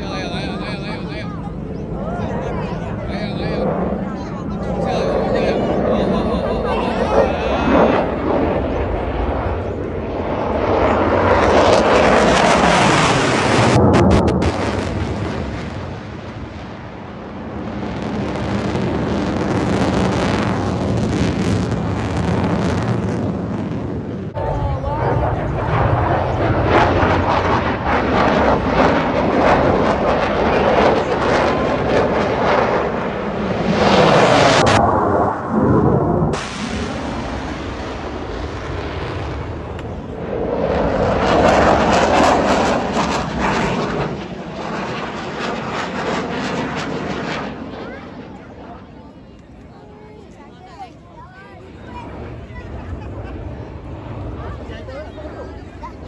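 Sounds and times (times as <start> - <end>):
fighter jet passing overhead: 0.0 - 56.0.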